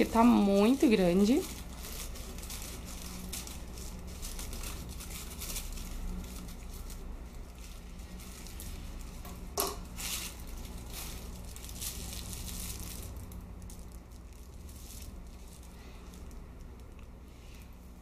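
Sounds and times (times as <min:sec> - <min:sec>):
plastic bag crinkling: 0:00.0 - 0:17.7.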